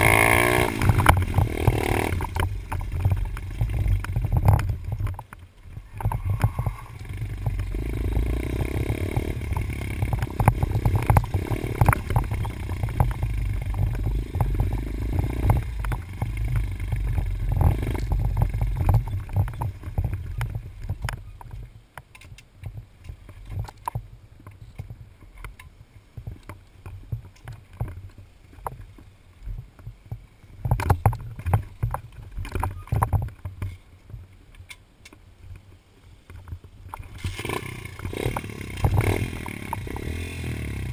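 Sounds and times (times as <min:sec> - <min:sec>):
knocks and rattles from bumps: 0:00.0 - 0:34.8, 0:36.3 - 0:40.2
muffled dirt bike engine and wind: 0:00.0 - 0:40.9.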